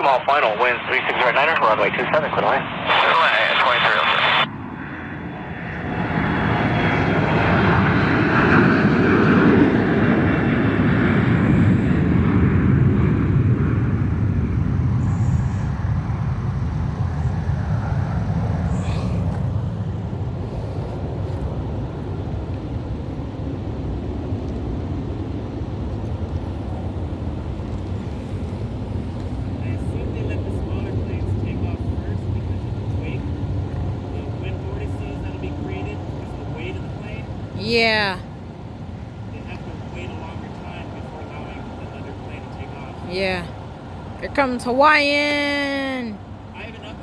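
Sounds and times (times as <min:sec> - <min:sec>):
jet airliner engines passing: 0:00.0 - 0:47.0.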